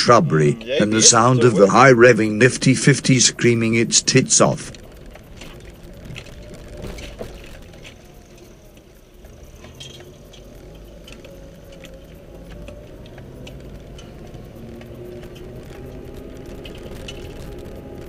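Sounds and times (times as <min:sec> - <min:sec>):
car engine running: 0:00.0 - 0:18.0
car rattling over gravel: 0:00.0 - 0:18.0.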